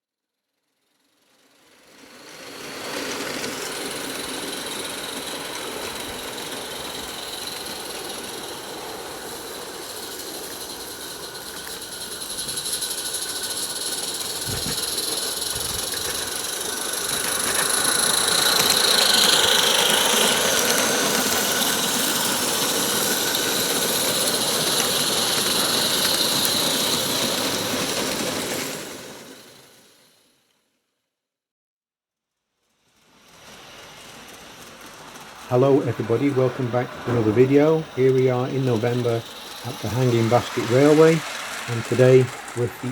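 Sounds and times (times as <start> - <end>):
small steam locomotive running: 0.6 - 30.5, 32.6 - 42.9
steam hissing: 2.0 - 30.0, 33.0 - 42.9.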